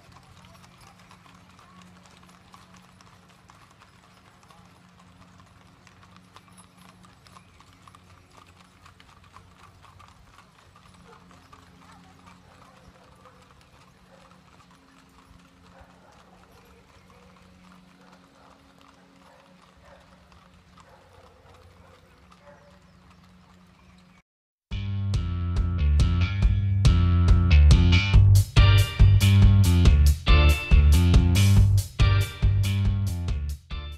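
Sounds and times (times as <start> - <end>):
hooves clip-clopping on pavement: 0.0 - 24.2, 25.6 - 33.9.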